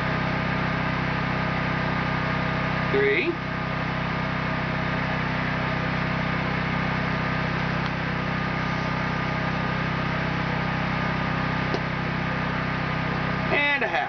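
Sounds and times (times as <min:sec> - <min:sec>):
generator engine humming: 0:00.0 - 0:14.0.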